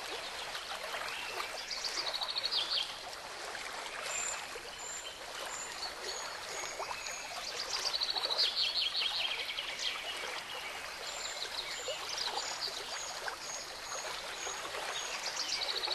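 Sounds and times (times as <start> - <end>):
running water rushing: 0.0 - 15.9.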